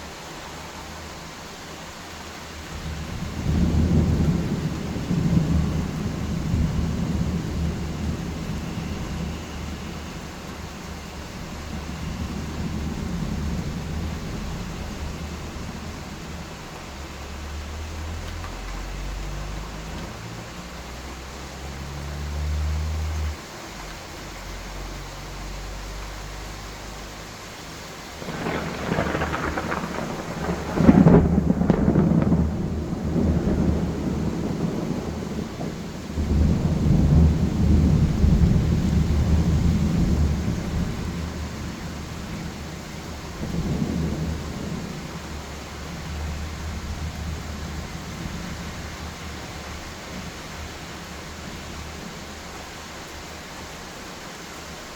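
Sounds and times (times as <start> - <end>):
rain hissing: 0.0 - 54.9
thunder rumbling: 2.6 - 23.4, 28.1 - 53.2.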